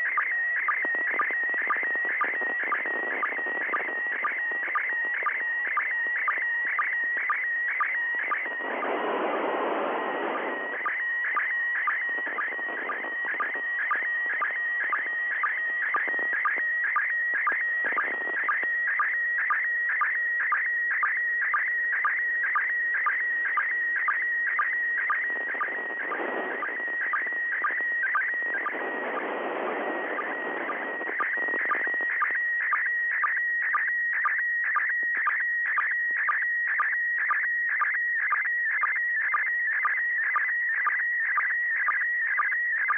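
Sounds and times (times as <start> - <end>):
receiver hiss: 0.0 - 42.9.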